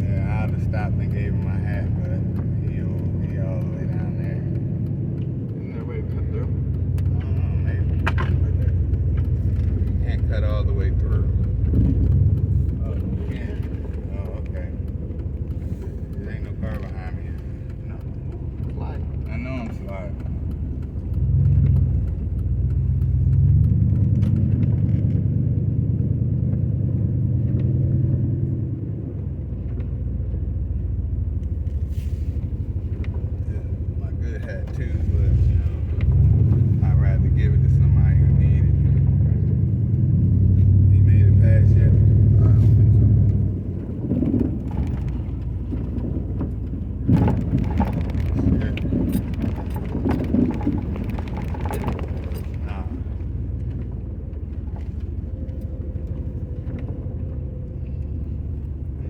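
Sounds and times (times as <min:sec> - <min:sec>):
irregular ticks: 0:00.0 - 0:25.6, 0:26.4 - 0:59.0
car engine and road rumble: 0:00.0 - 0:59.0.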